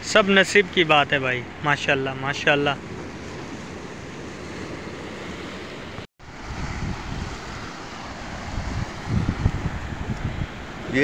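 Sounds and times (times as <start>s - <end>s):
sea surf rushing: 0.0s - 11.0s
wind buffeting microphone: 0.0s - 11.0s.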